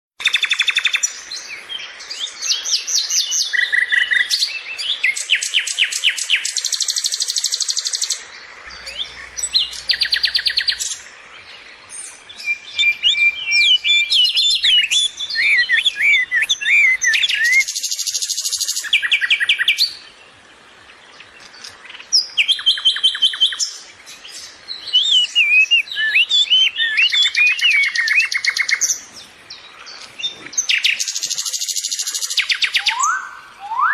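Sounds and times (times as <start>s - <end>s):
songbird singing and chirping: 0.2s - 33.9s.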